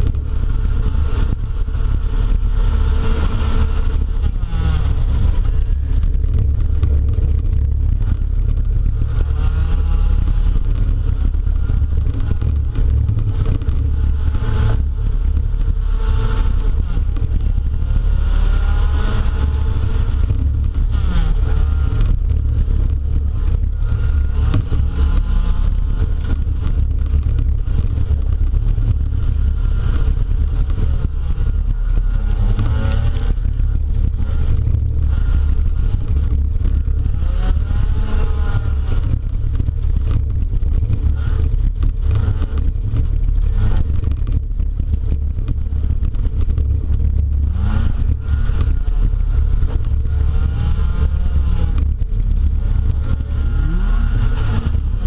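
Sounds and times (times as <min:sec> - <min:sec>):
car engine revving: 0:00.0 - 0:55.0
heavy low rumble: 0:00.0 - 0:55.0.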